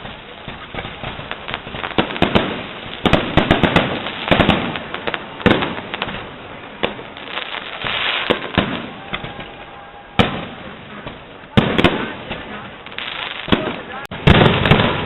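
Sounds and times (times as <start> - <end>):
fireworks bangs and pops: 0.0 - 15.0
fireworks crackling: 0.0 - 15.0.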